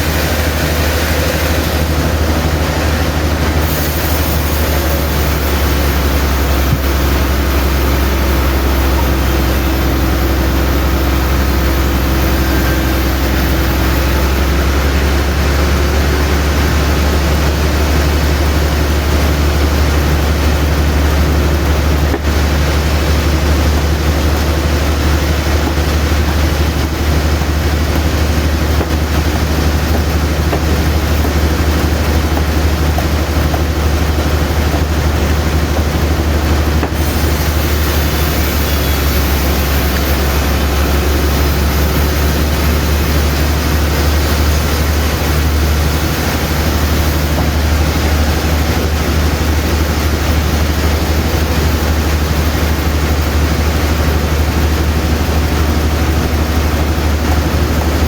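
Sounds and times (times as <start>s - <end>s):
constant noisy wash: 0.0s - 58.0s
sawmill machinery drone: 0.0s - 58.0s.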